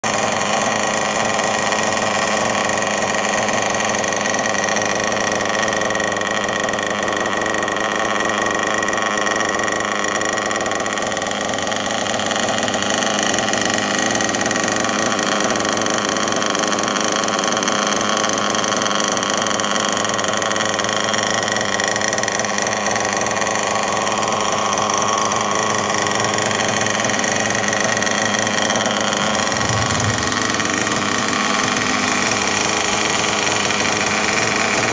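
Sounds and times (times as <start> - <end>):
small nitro engine idling: 0.0 - 34.9.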